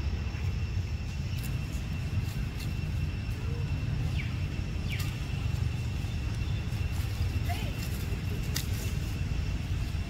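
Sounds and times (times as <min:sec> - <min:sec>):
high insect drone: 0:00.0 - 0:10.0
steady low rumble: 0:00.0 - 0:10.0.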